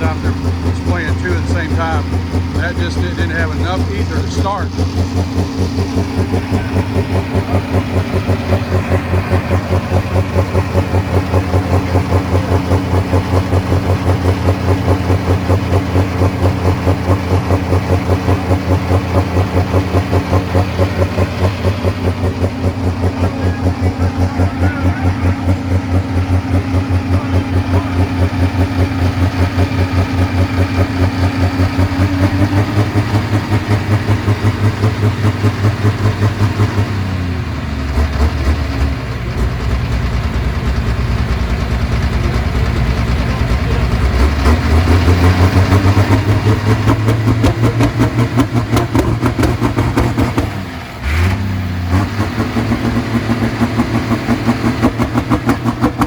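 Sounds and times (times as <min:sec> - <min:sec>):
diesel tractor engine pulsing: 0:00.0 - 0:56.0.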